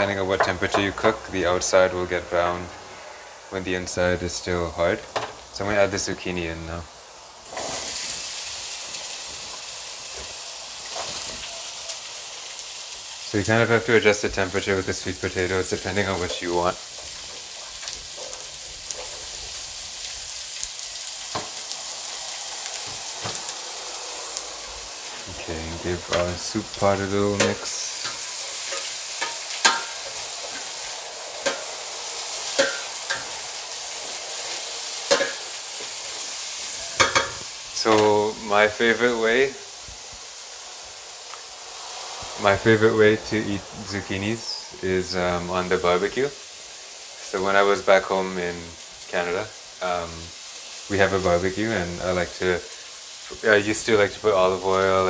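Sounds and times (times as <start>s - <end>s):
vegetables sizzling in a pot: 0.0s - 55.0s.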